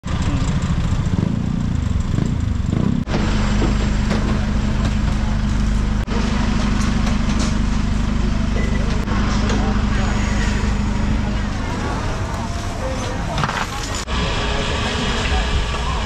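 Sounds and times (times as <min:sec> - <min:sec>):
low engine-like drone: 0:00.0 - 0:16.0.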